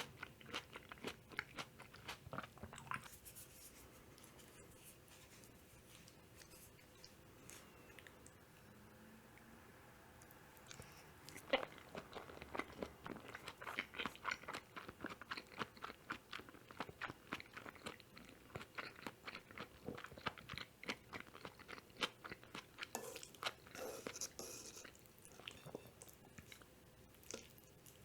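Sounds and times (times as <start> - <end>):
person chewing food: 0.0 - 8.4, 10.2 - 28.0.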